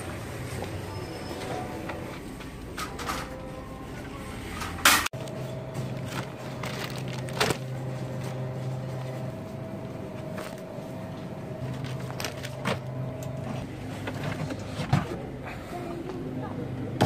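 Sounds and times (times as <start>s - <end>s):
low electrical hum: 1.9s - 17.0s.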